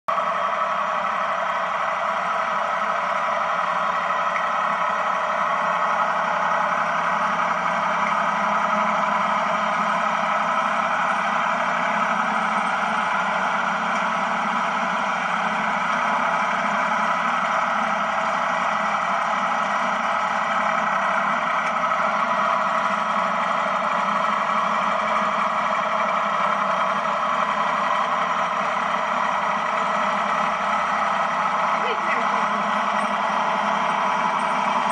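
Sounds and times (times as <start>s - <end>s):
tractor engine running: 0.1s - 34.9s
sickle bar mower cutting hay: 2.9s - 34.9s.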